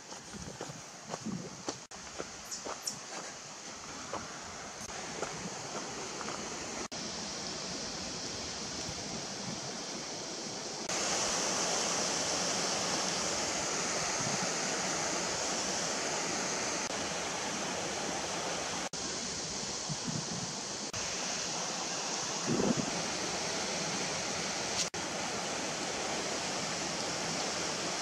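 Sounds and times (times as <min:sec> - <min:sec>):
rushing water: 0:01.8 - 0:28.0.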